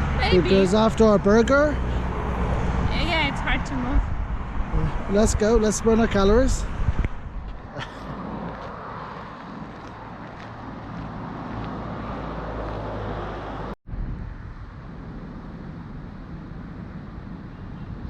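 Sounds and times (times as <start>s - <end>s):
road traffic passing: 0.0s - 18.0s
wind rumble on microphone: 1.9s - 18.0s.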